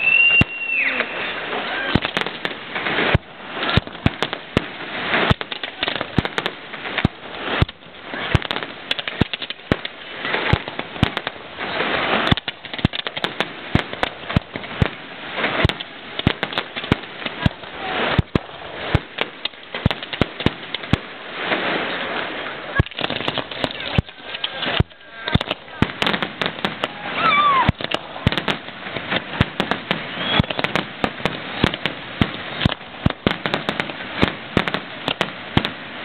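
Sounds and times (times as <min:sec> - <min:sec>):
fireworks bangs and pops: 0:00.0 - 0:36.0
fireworks crackling hiss: 0:00.0 - 0:36.0.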